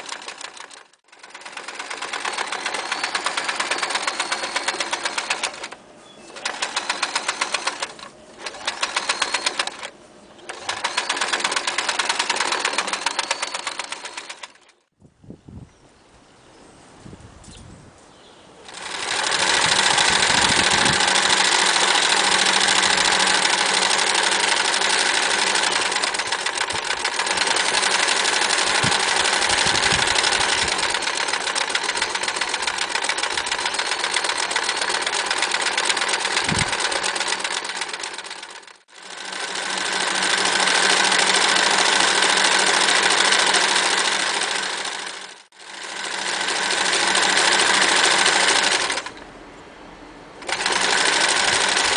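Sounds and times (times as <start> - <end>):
electric sewing machine stitching: 0.0 - 14.9, 18.7 - 49.2, 50.4 - 51.9.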